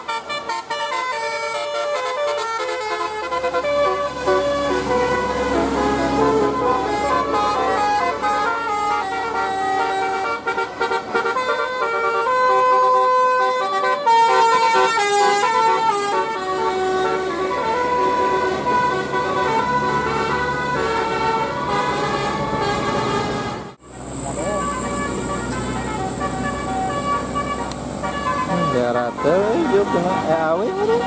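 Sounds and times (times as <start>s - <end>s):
musical air horn playing a tune: 0.0s - 31.0s.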